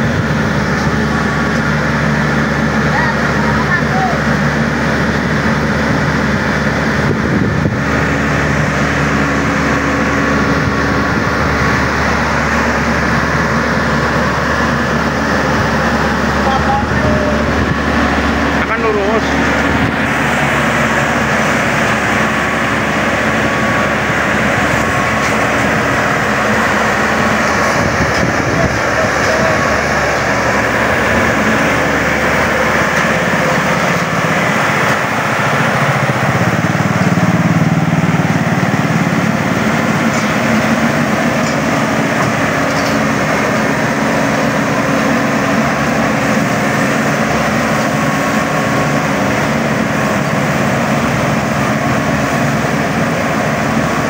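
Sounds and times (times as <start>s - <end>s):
combine harvester diesel engine running: 0.0s - 54.0s.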